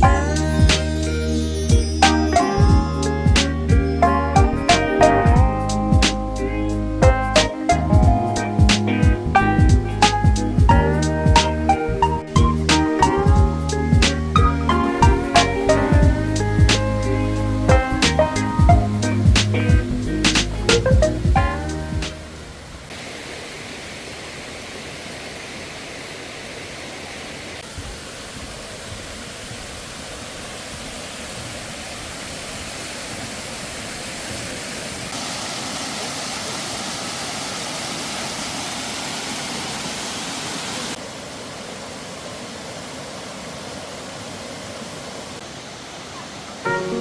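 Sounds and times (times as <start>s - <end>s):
stream rushing over rocks: 6.0s - 47.0s.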